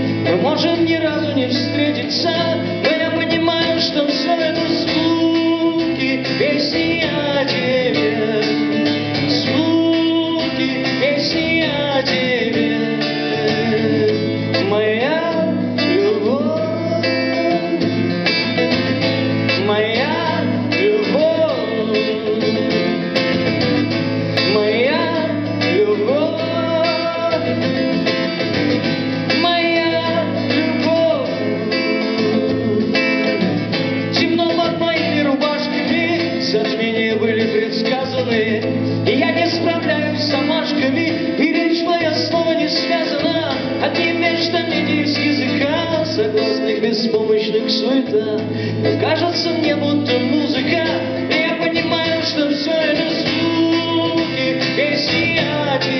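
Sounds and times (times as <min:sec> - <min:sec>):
acoustic guitar: 0:00.0 - 0:55.9
man singing: 0:00.0 - 0:55.9.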